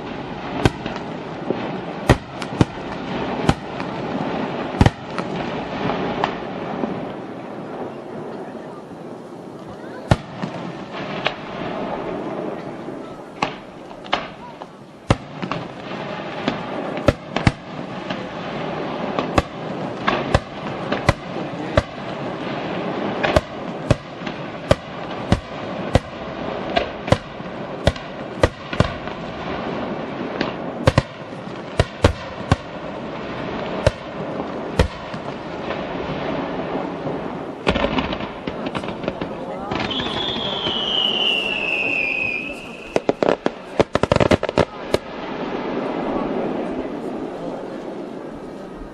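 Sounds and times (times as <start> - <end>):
fireworks bangs: 0.0 - 48.9
fireworks crackle: 0.0 - 48.9.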